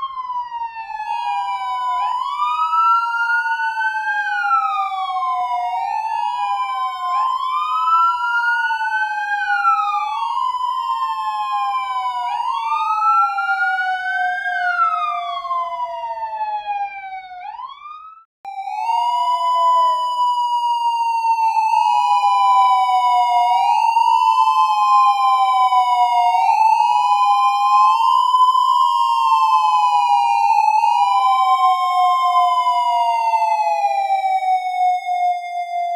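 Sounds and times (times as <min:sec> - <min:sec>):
police sirens wailing: 0:00.0 - 0:35.9.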